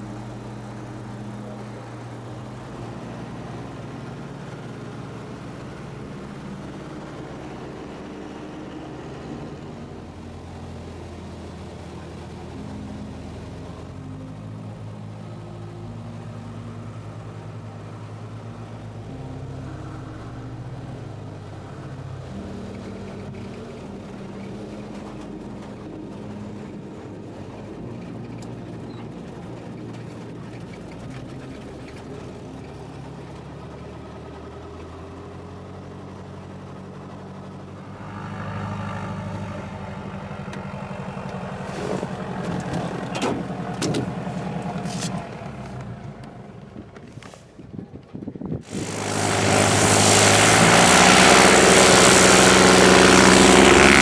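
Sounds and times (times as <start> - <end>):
loud rushing roar: 0.0 - 46.8, 48.6 - 54.0
engine running: 0.0 - 54.0.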